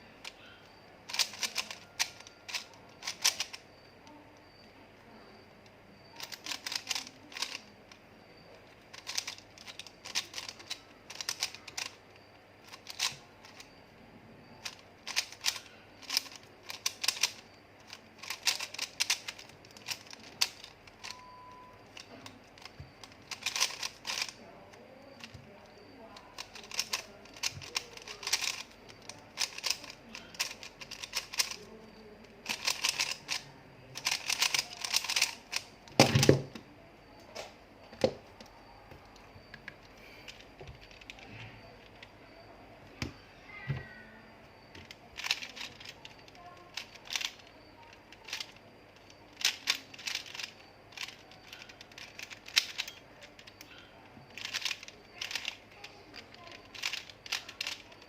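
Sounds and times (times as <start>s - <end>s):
faint high steady tone: 0.0s - 58.0s.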